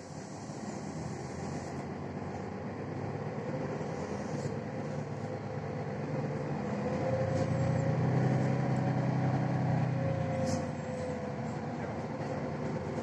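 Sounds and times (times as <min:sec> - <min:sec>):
bus engine under load: 0:00.0 - 0:13.0.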